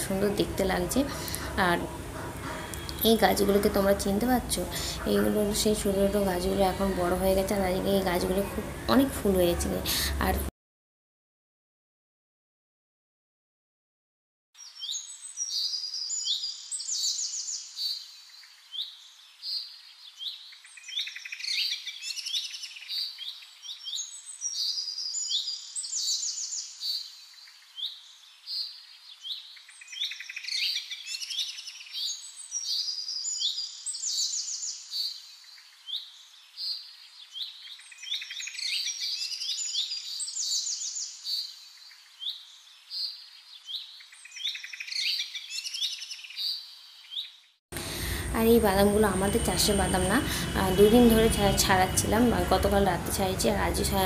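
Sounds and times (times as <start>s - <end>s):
small birds chirping and trilling: 0.0s - 10.2s, 14.6s - 54.0s.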